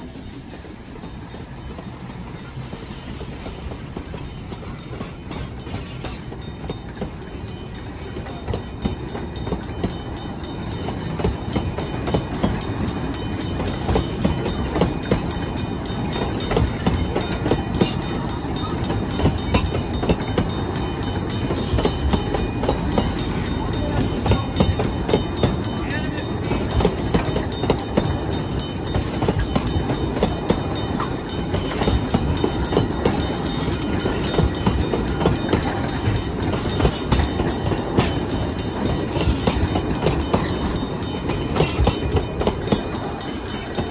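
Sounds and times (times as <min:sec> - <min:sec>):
train wheels clicking on rails: 0:00.0 - 0:43.9.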